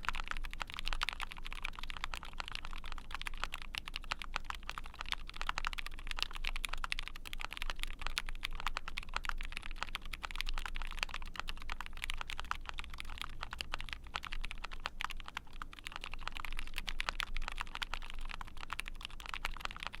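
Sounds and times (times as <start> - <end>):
fast mechanical keyboard typing: 0.0 - 20.0.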